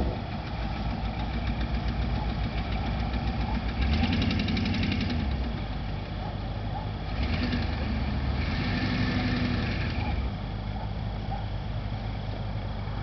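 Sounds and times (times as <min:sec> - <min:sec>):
truck engine pulling under load: 0:00.0 - 0:13.0.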